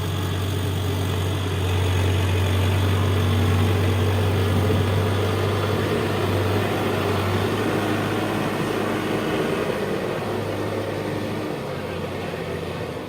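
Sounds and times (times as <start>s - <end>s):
heavy machine engine droning: 0.0s - 13.0s.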